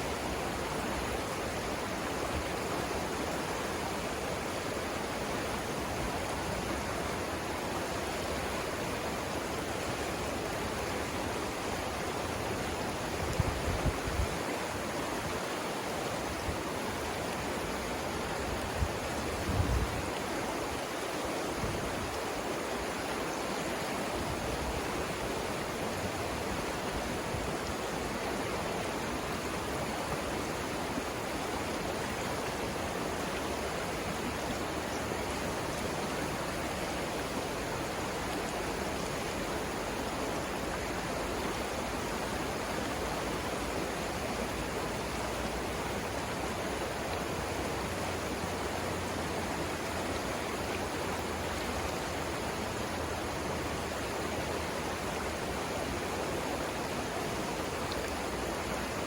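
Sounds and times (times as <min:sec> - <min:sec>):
river rapids roaring: 0:00.0 - 0:59.0.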